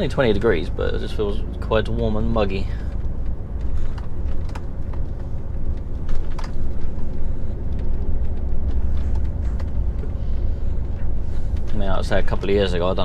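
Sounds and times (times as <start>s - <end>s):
diesel truck engine rumble: 0.0s - 13.0s
light knocks and rattles: 0.0s - 13.0s.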